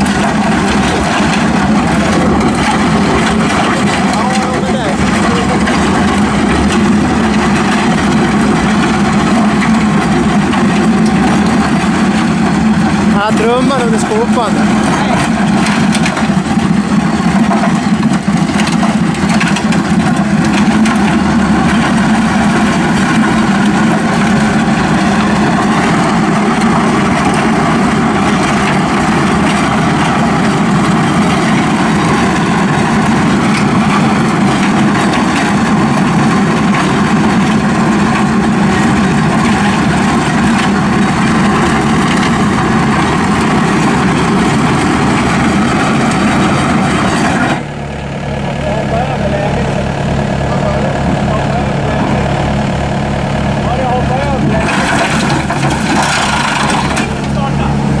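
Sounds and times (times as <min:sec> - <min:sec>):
trench cutter grinding gravel: 0:00.0 - 0:48.0, 0:51.5 - 0:58.0
diesel engine running under load: 0:00.0 - 0:58.0.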